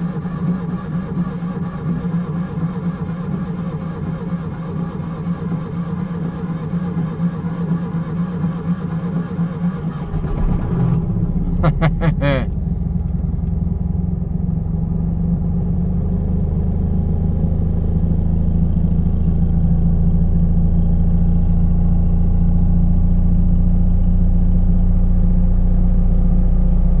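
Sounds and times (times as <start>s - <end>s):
small car engine running: 0.0s - 27.0s.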